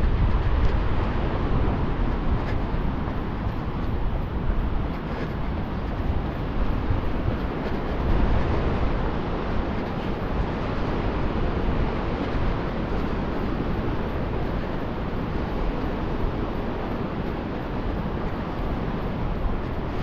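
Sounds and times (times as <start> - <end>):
outdoor ambient rumble and hiss: 0.0 - 20.0.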